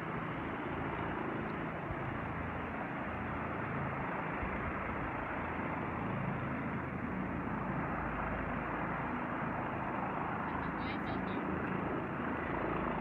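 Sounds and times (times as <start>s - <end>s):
distant helicopter hovering: 0.0s - 13.0s.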